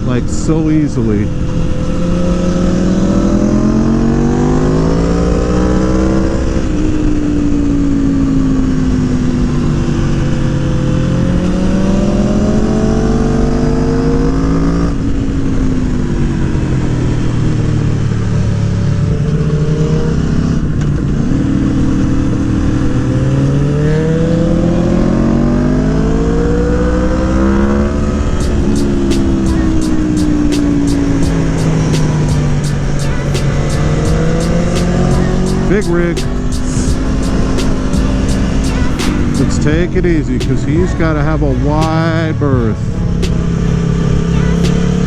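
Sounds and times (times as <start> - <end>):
motorcycle engine revving: 1.2 - 45.0.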